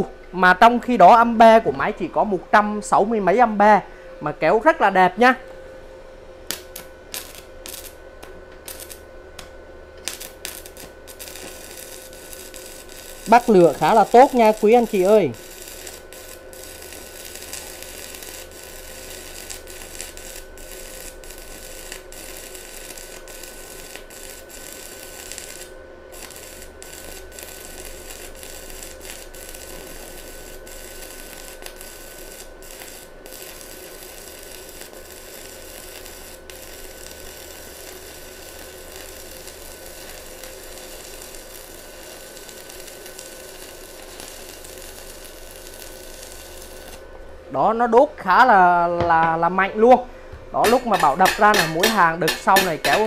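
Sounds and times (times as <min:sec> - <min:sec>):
welding arc hissing: 0:06.5 - 0:47.1, 0:47.7 - 0:53.0.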